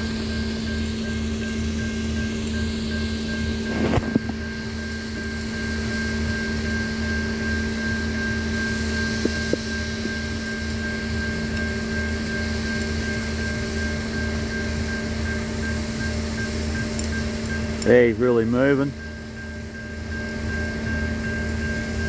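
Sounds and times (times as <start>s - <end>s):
level crossing warning bells: 0.0s - 22.0s
low pulsing hum: 0.0s - 22.0s.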